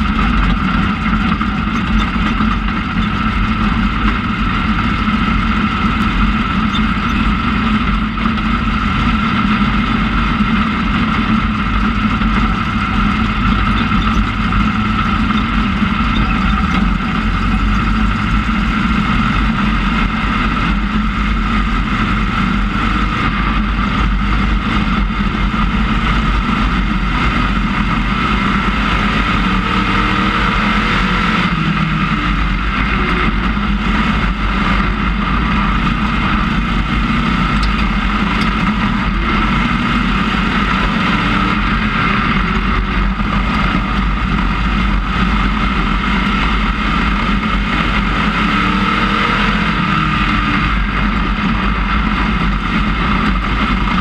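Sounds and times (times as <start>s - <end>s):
race car engine drone: 0.0s - 54.0s.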